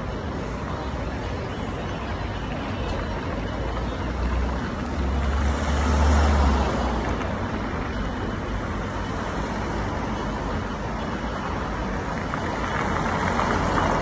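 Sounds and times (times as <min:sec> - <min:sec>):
steady traffic hum: 0:00.0 - 0:14.0.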